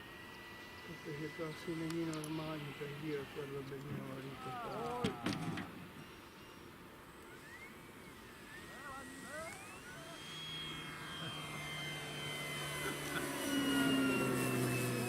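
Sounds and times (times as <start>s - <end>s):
electric motor and propeller whine: 0.0s - 15.0s.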